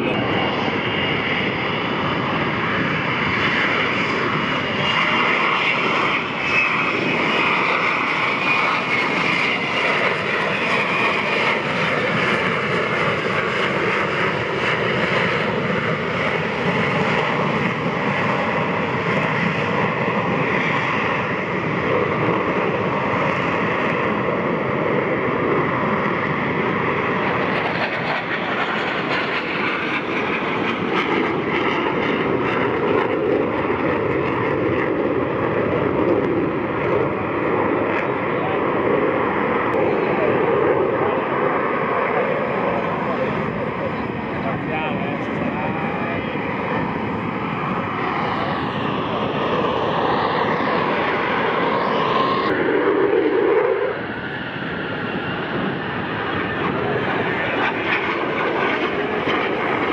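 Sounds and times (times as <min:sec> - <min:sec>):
jet engine roaring with high whine: 0:00.0 - 0:59.9.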